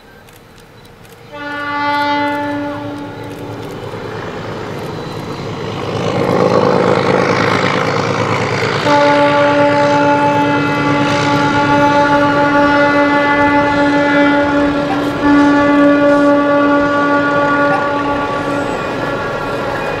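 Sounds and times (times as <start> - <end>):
diesel engines and running train: 0.0 - 20.0
locomotive horn blasts: 1.2 - 20.0.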